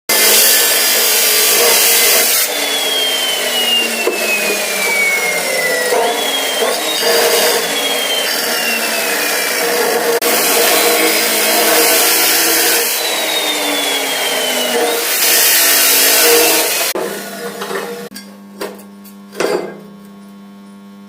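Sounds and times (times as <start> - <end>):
power tool grinding metal: 0.1 - 18.2.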